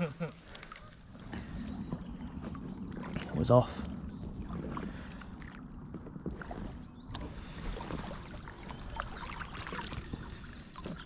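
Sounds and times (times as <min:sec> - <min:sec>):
paddle dipping through water: 0:00.3 - 0:11.0.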